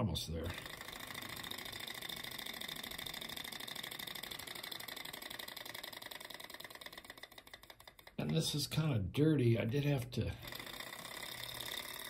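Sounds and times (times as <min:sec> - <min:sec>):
small engine rapid clatter: 0:00.4 - 0:08.6, 0:10.4 - 0:12.0.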